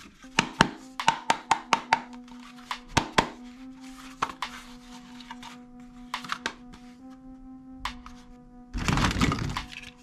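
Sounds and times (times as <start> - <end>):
background music with held tone: 0.0 - 10.0.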